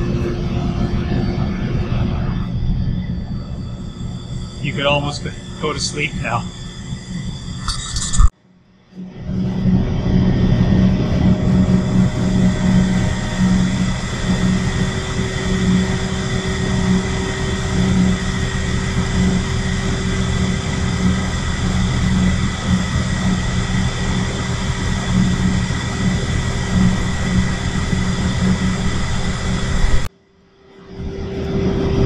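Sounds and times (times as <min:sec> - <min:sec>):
steam turbine droning and whining: 0:00.0 - 0:32.0.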